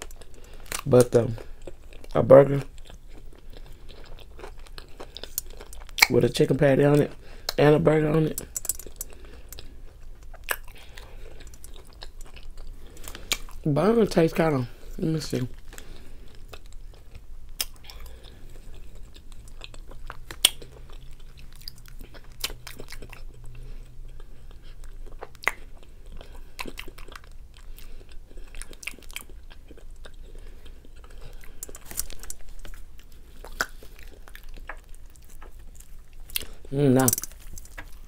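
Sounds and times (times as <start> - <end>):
person chewing food: 0.0 - 13.7, 14.4 - 38.0.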